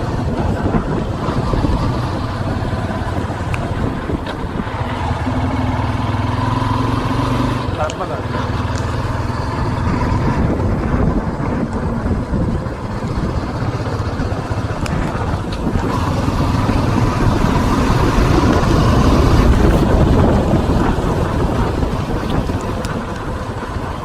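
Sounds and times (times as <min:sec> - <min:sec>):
tyre and trail noise: 0:00.0 - 0:24.0
wind buffeting microphone: 0:00.0 - 0:24.0.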